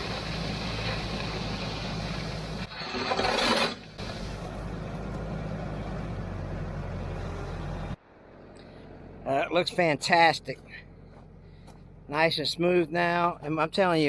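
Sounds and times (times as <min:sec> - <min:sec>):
tractor diesel engine running: 0:00.0 - 0:02.8, 0:03.8 - 0:12.6.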